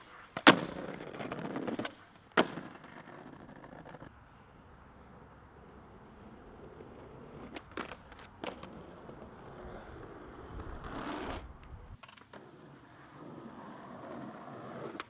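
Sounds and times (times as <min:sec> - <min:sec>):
skateboard clacks: 0:00.0 - 0:04.1, 0:06.0 - 0:15.0
skateboard wheels rolling on concrete: 0:00.0 - 0:15.0.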